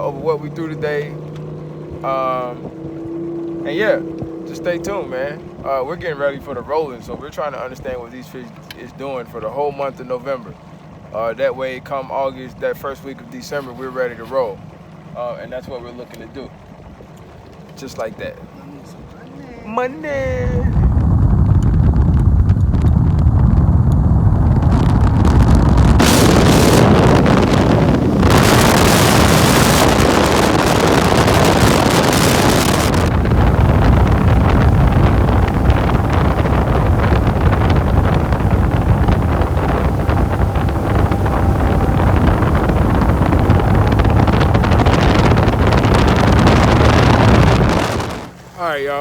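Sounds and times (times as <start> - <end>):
wind buffeting microphone: 0.0 - 48.5
motorboat running at speed: 0.0 - 49.0.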